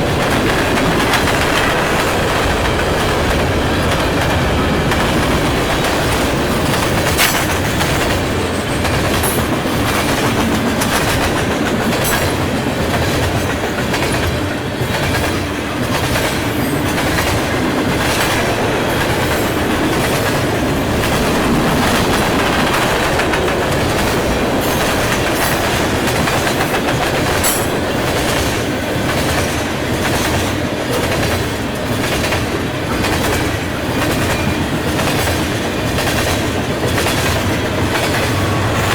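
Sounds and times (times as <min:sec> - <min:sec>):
train wheels rumbling on rail: 0:00.0 - 0:38.9
wheels clicking over rail joints: 0:00.0 - 0:38.9.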